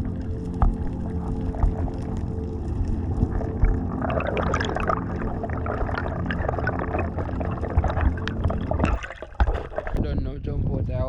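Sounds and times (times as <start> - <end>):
small crackling clicks: 0.0 - 10.0
water splashing and gurgling: 0.0 - 10.0.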